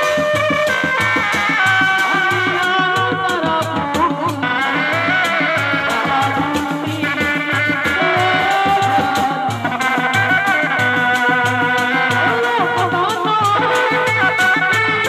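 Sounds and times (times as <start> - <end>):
frame drums beaten: 0.0 - 15.0.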